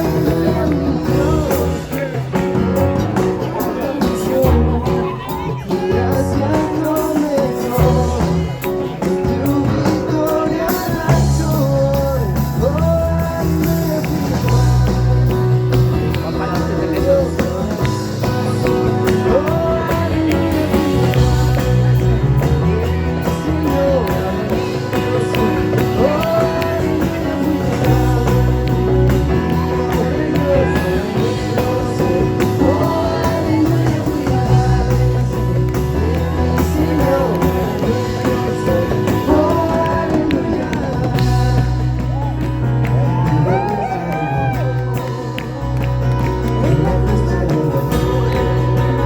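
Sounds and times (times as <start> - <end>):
live band playing worship song: 0.0 - 49.0
voices singing: 0.0 - 49.0.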